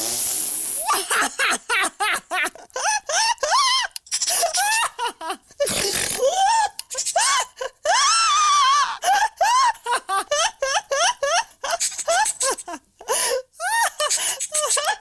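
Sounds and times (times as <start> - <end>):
woman laughing hard: 0.8 - 15.0.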